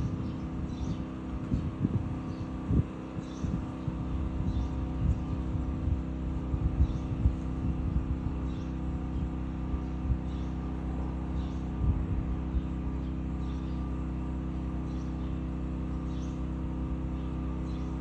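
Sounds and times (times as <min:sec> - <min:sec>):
low machine hum: 0:00.0 - 0:18.0
small birds chirping: 0:00.0 - 0:18.0.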